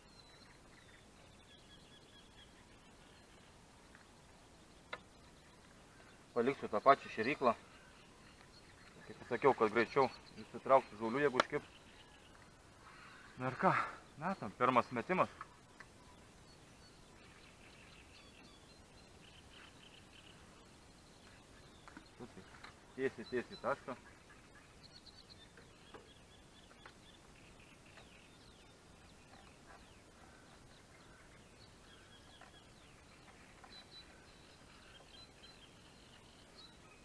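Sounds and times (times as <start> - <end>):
bird singing: 0.0 - 37.0.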